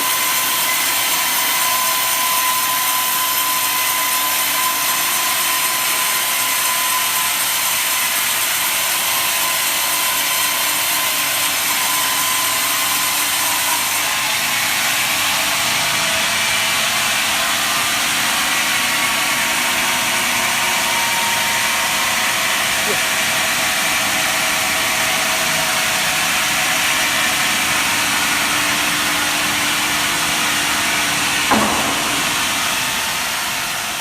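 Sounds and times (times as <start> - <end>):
band saw running: 0.0 - 34.0.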